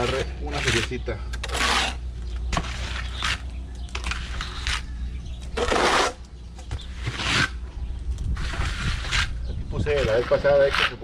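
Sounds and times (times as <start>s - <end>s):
trowel scraping cement: 0.0s - 7.6s, 8.4s - 11.0s.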